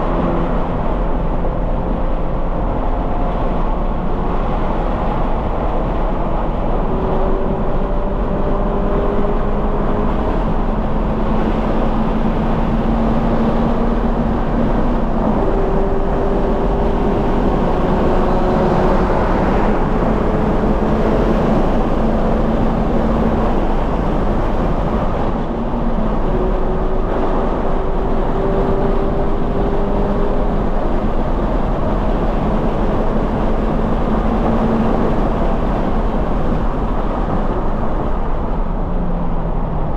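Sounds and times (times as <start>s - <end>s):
car engine pulling hard: 0.0s - 39.9s
wind and tyre noise: 0.0s - 39.9s.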